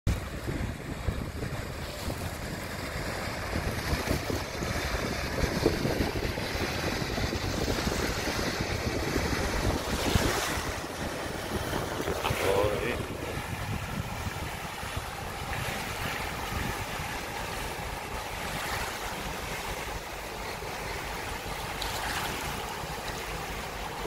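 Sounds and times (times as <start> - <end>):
water rushing along hull: 0.1 - 24.0
wind buffeting microphone: 0.1 - 24.0.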